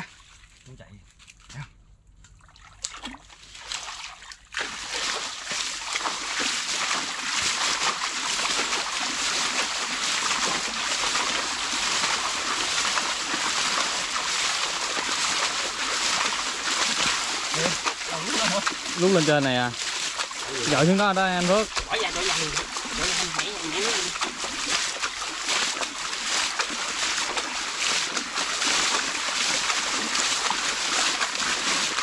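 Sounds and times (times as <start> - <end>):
water splashing and rushing: 2.4 - 32.0.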